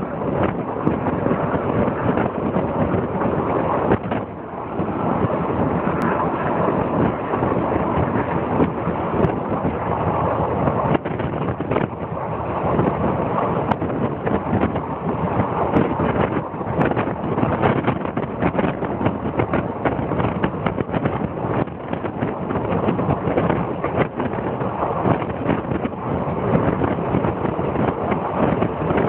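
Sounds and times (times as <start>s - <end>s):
train rumbling: 0.0s - 29.0s
wind buffeting microphone: 0.0s - 29.0s.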